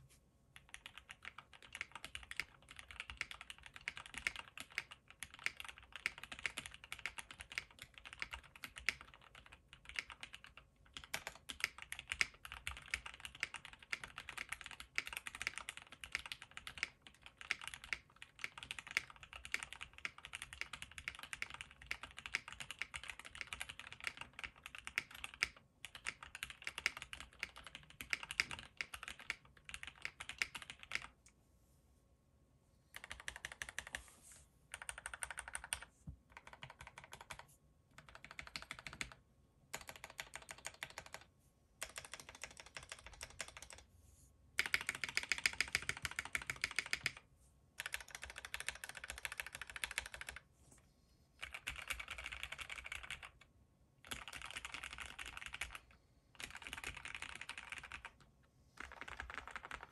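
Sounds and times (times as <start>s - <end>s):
mechanical keyboard typing: 0.6s - 31.2s, 32.9s - 34.0s, 34.7s - 43.9s, 44.6s - 47.2s, 47.8s - 50.4s, 51.4s - 59.9s.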